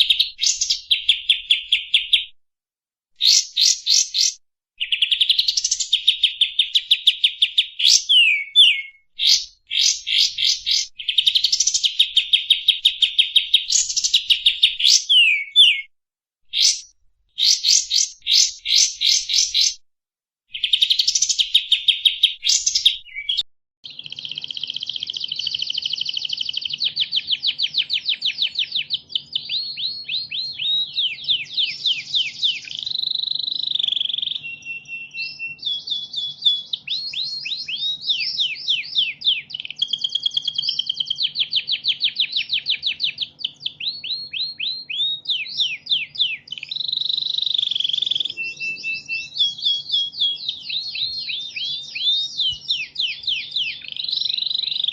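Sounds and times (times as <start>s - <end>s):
songbird song: 0.0s - 2.4s, 3.2s - 15.9s, 16.5s - 19.8s, 20.5s - 54.9s.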